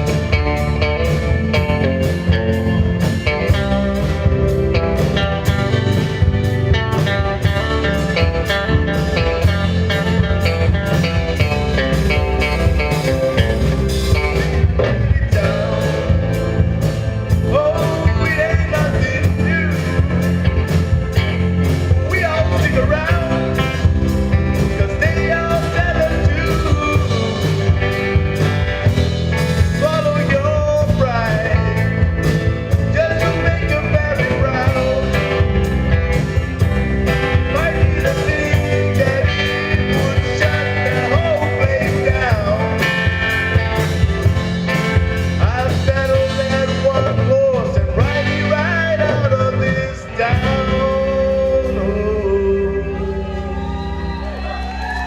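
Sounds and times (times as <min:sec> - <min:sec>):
rock song with guitar and drums: 0:00.0 - 0:55.0
person singing: 0:06.9 - 0:28.5, 0:29.6 - 0:44.4, 0:45.2 - 0:55.0.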